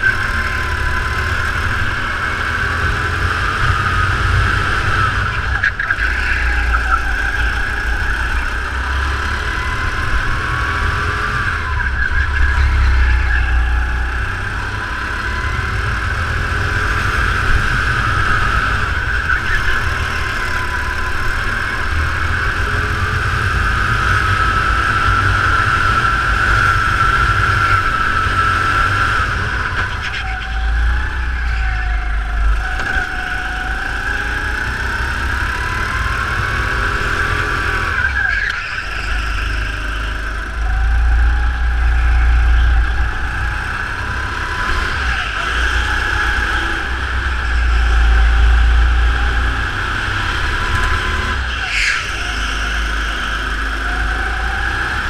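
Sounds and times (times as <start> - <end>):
kart engine running: 0.0 - 55.0.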